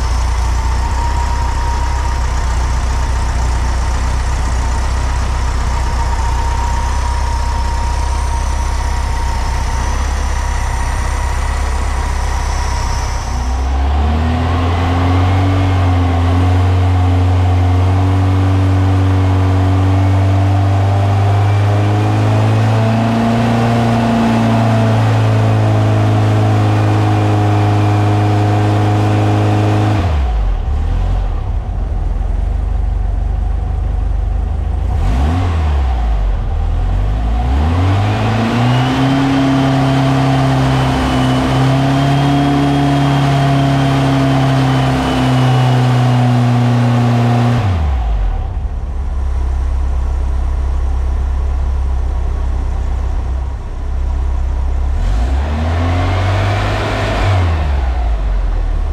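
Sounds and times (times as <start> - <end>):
air-cooled engine revving and idling: 0.0 - 58.9.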